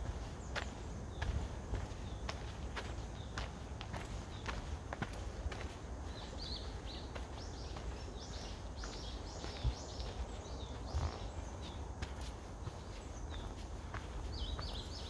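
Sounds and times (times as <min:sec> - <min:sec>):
soft footsteps: 0:00.0 - 0:15.0
songbird chirping: 0:00.0 - 0:15.0
steady low rumble: 0:00.0 - 0:15.0.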